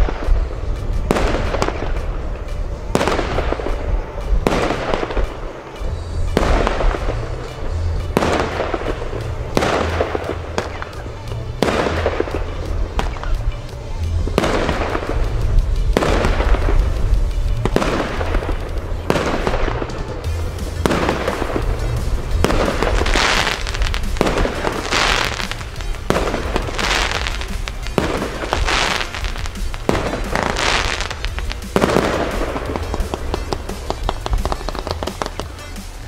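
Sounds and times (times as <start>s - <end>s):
crackling hiss of stars: 0.0s - 36.0s
firework battery shots: 0.0s - 36.0s.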